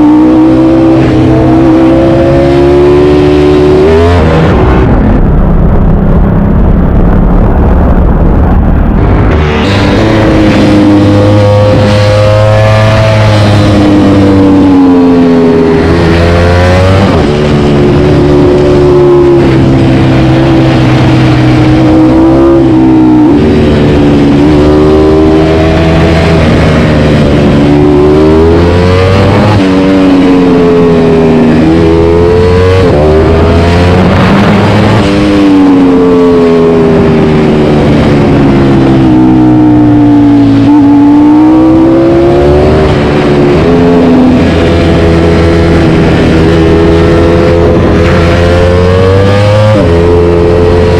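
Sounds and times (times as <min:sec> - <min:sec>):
loud motorcycle engine revving: 0:00.0 - 0:06.2, 0:08.9 - 0:50.9.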